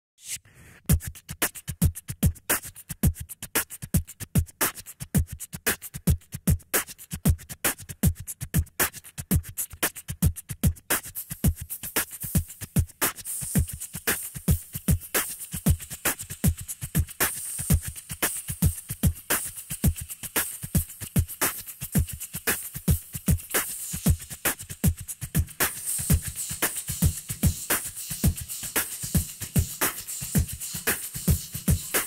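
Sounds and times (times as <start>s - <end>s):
hissing beatboxed hi-hat: 0.2s - 32.0s
mouth snare and hi-hat clicks: 0.2s - 32.0s
beatboxed kick drum: 0.5s - 32.0s.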